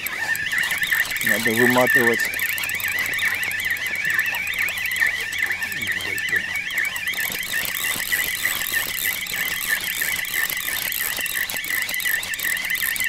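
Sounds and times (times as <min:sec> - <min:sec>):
fishing reel whine: 0:00.0 - 0:13.0.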